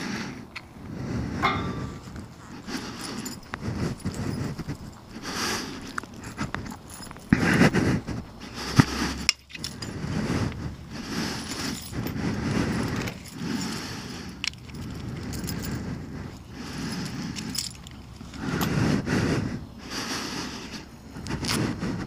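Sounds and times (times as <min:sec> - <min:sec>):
heavy rhythmic breathing: 0:00.0 - 0:22.0.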